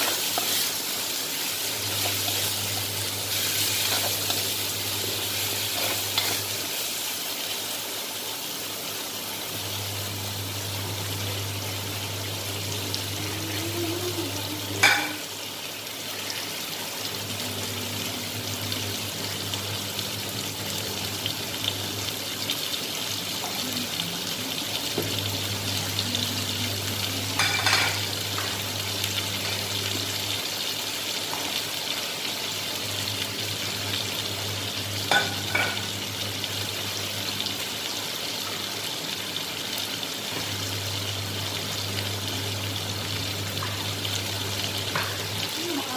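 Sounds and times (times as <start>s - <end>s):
food sizzling in a wok: 0.0s - 45.9s.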